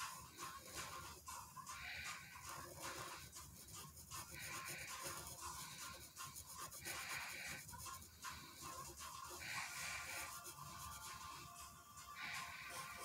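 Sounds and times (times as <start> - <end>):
instrumental background music: 0.0 - 13.0
pen rubbing on paper: 0.0 - 13.0.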